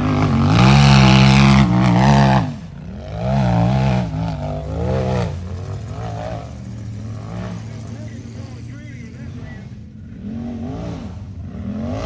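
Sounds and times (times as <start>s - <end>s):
race utv engine revving: 0.0s - 12.0s.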